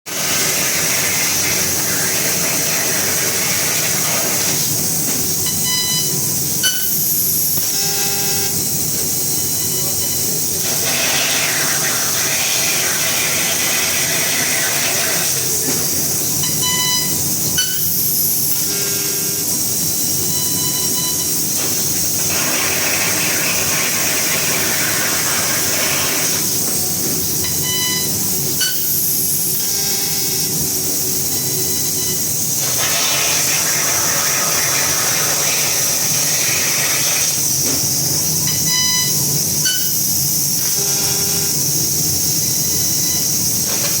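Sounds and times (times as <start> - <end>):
laser cutting machine hissing: 0.1 - 44.0.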